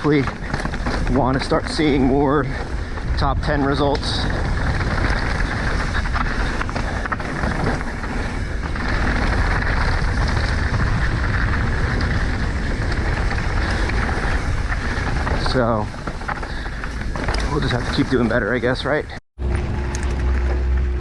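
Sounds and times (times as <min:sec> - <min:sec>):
wind on microphone: 0:00.0 - 0:16.9
bike knocks and rattles: 0:00.0 - 0:21.0
bike tyres rolling on dirt: 0:00.0 - 0:21.0.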